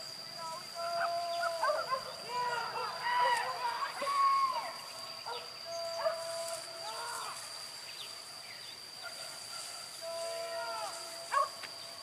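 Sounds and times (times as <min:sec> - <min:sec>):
high-pitched insect drone: 0:00.0 - 0:12.0
distant hunting cries: 0:00.4 - 0:12.0.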